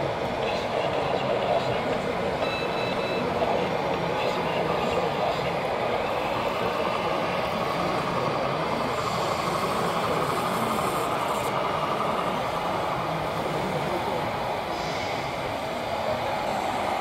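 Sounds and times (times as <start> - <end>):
model truck engine running: 0.1 - 16.3.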